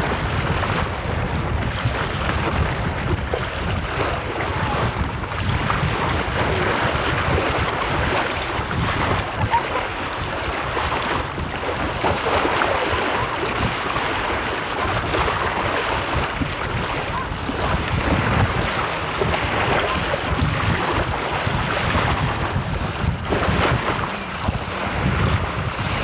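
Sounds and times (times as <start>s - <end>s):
rush of moving water: 0.0s - 26.0s
wind buffeting microphone: 0.0s - 26.0s.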